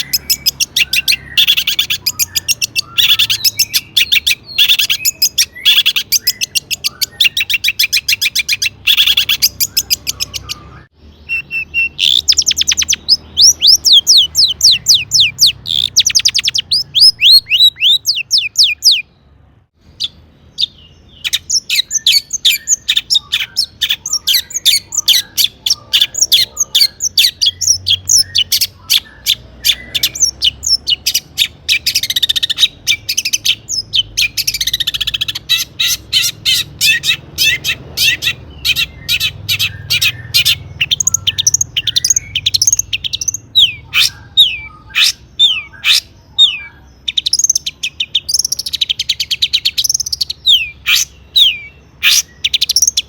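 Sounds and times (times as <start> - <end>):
bird singing: 0.0 - 53.0.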